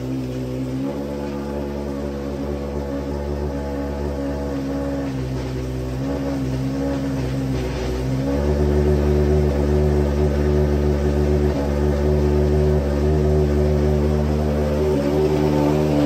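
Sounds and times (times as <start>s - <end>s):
racing car engine idling: 0.0s - 16.0s.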